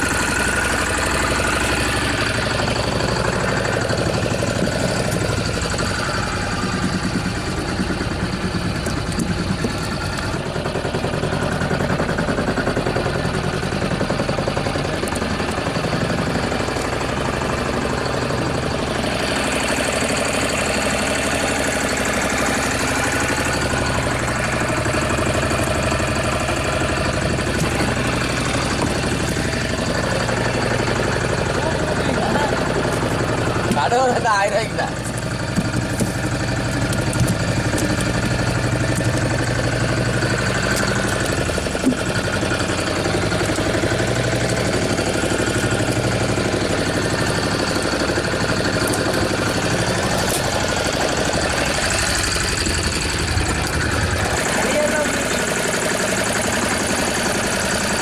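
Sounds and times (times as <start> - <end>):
boat engine pulsing hum: 0.0 - 58.0.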